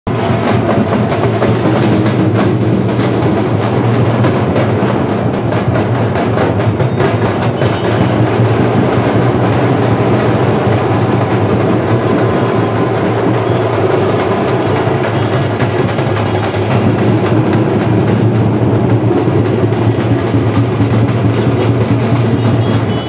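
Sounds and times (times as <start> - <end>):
drum-heavy festival music: 0.1 - 23.0.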